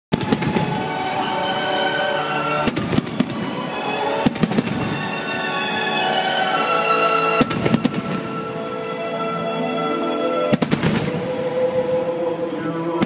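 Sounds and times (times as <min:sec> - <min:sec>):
music: 0:00.1 - 0:13.0.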